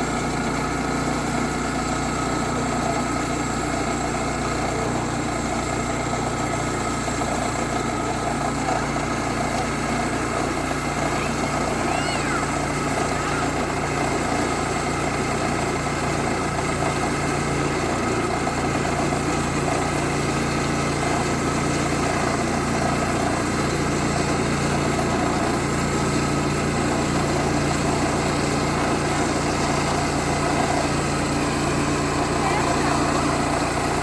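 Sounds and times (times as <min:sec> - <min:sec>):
sawmill engine running: 0:00.0 - 0:34.0.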